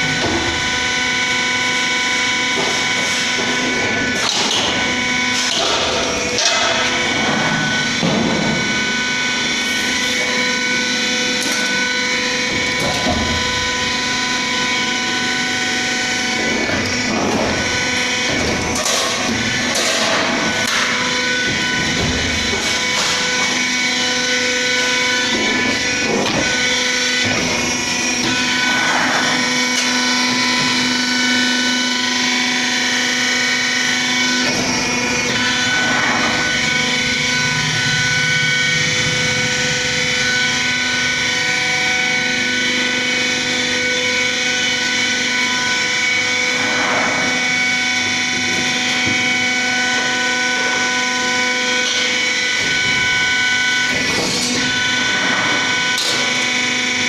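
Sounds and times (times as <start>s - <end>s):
metal bending machine humming: 0.0s - 57.0s.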